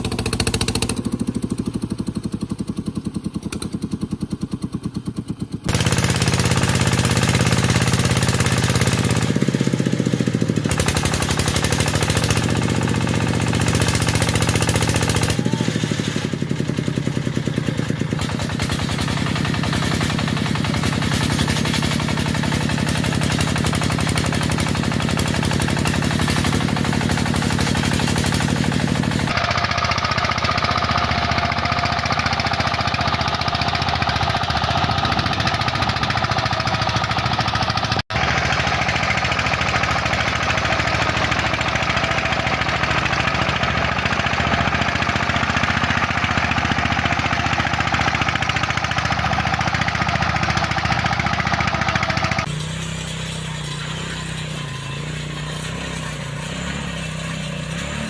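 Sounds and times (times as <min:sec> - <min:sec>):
diesel tiller engine chugging: 0:00.0 - 0:58.0.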